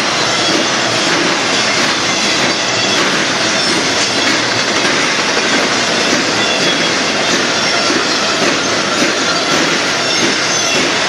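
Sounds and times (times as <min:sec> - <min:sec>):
high wheel squeals: 0:00.0 - 0:11.0
train wheels rushing on rail: 0:00.0 - 0:11.0.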